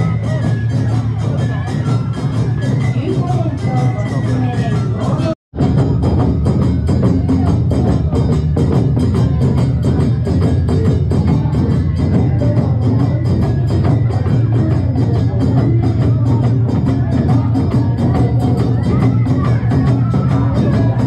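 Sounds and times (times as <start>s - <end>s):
drums and percussion fast beat: 0.0s - 21.0s.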